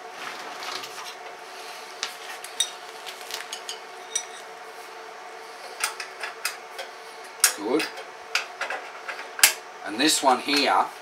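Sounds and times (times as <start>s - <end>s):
air compressor humming: 0.0s - 11.0s.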